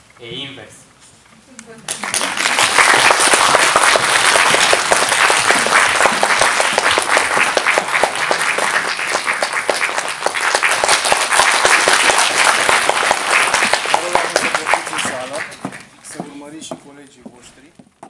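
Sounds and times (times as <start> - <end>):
audience applauding: 1.9 - 16.4.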